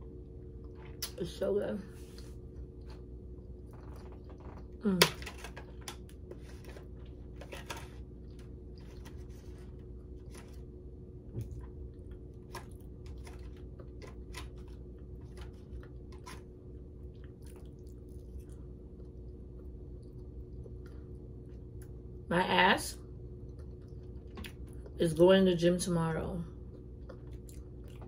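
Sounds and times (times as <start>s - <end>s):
chewing pie soft crunching: 0.0s - 1.2s, 2.0s - 22.3s, 23.1s - 25.0s, 26.5s - 28.0s
low hum: 0.0s - 28.0s.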